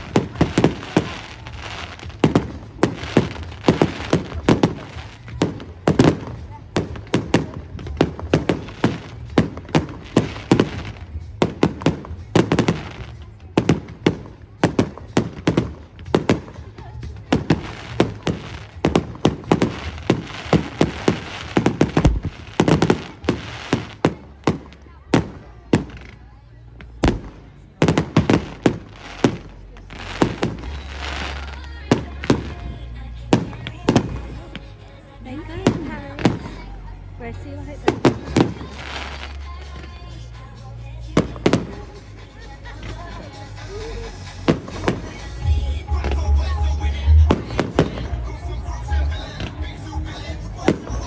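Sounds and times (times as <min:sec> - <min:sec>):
fireworks bangs: 0:00.0 - 0:26.2, 0:26.8 - 0:51.0
fireworks crackling hiss: 0:00.0 - 0:51.0.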